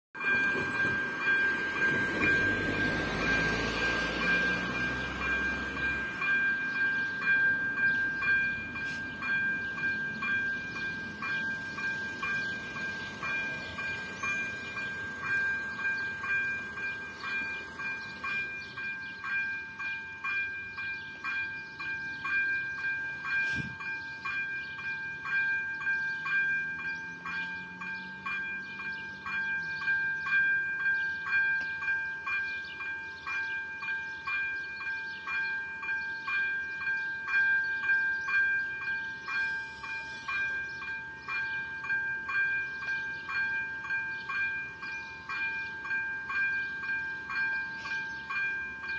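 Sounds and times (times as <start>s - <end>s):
level crossing warning bell: 0.2s - 48.9s.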